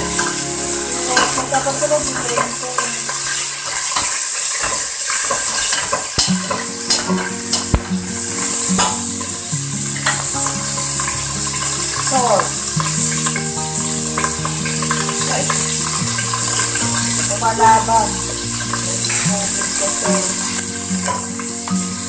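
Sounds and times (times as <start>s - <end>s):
meat sizzling in a pot: 0.0s - 22.0s.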